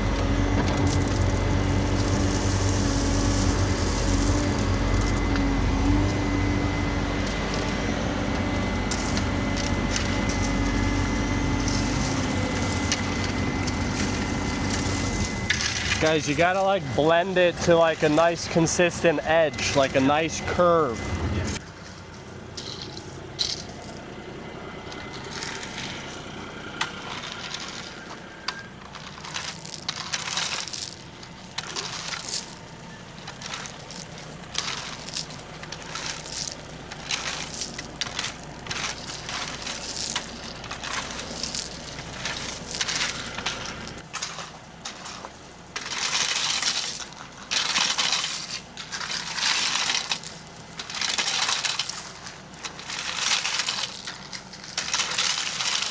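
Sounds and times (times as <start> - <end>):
hand tools scraping dirt and gravel: 0.0 - 24.2, 24.8 - 55.9.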